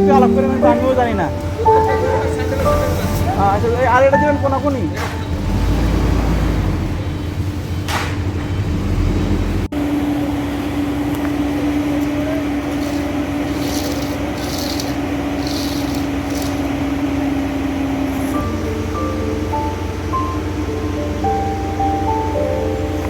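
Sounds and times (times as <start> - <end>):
diesel engine running: 0.0 - 23.0
steady machine hum: 0.0 - 23.0.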